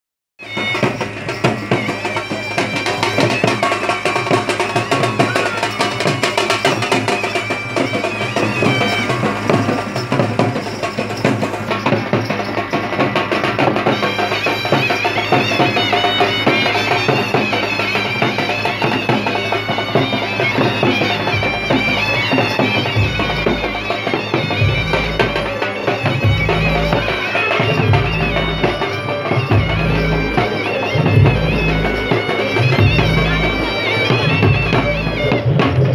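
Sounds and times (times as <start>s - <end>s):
barrel drums beating: 0.4s - 35.9s
reedy wind instrument melody: 0.4s - 35.9s.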